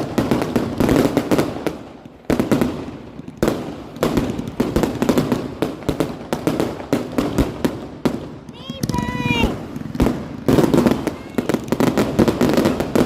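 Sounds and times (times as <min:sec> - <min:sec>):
crackling pops of fireworks: 0:00.0 - 0:13.0
fireworks bursts: 0:00.0 - 0:13.0.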